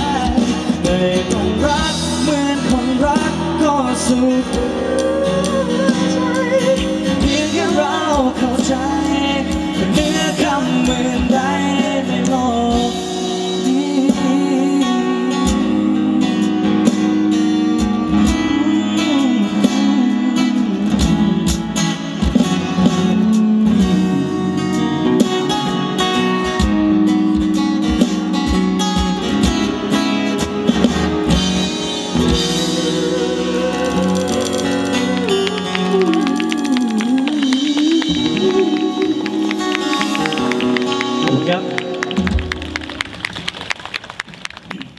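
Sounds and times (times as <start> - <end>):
man singing: 0.0 - 25.5, 31.7 - 42.4
pop song through pa: 0.0 - 42.7
guitar: 0.0 - 44.9.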